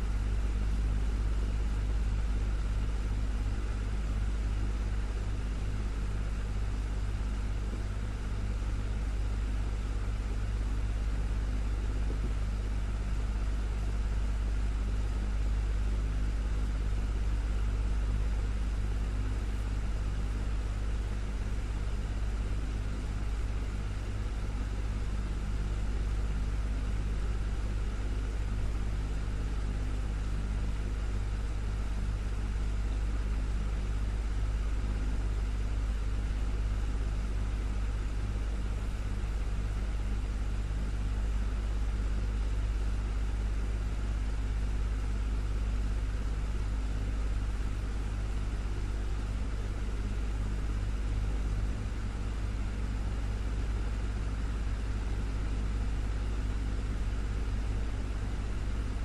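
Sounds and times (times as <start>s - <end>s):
desktop fan running: 0.0s - 59.0s.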